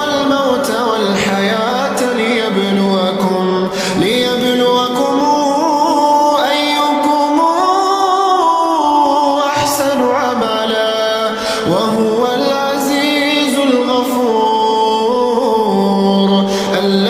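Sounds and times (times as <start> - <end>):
solo voice chanting recitation: 0.0 - 17.0.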